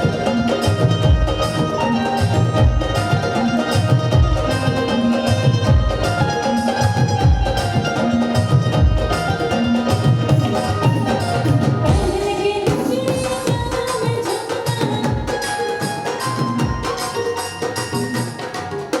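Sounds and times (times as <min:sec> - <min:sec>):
music with drum beat: 0:00.0 - 0:19.0.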